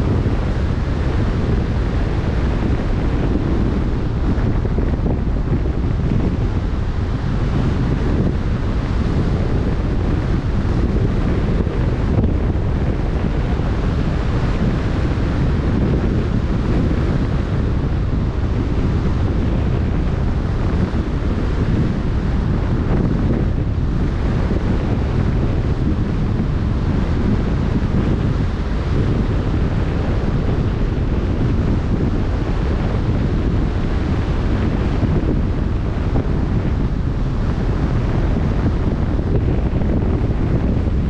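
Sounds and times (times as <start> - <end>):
choppy sea water rushing: 0.0 - 41.0
wind buffeting microphone: 0.0 - 41.0.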